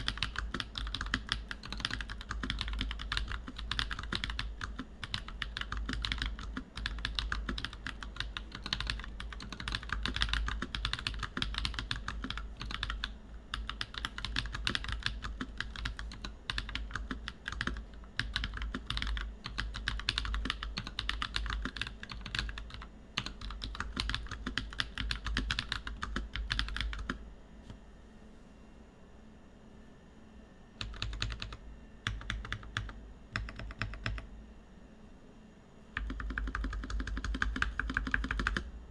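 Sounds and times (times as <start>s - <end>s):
fast typing on mechanical keyboard: 0.0s - 27.2s, 30.8s - 34.3s, 36.0s - 38.7s.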